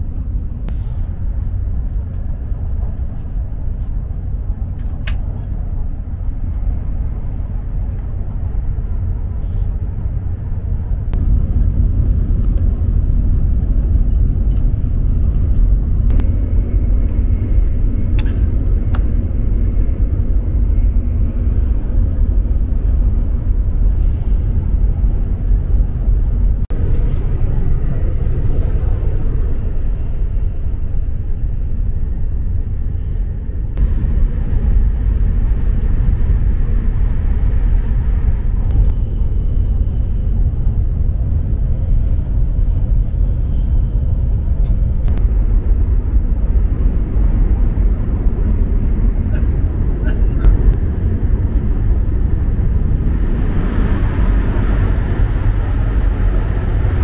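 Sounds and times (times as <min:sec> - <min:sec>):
train rumble inside cabin: 0:00.0 - 0:57.0.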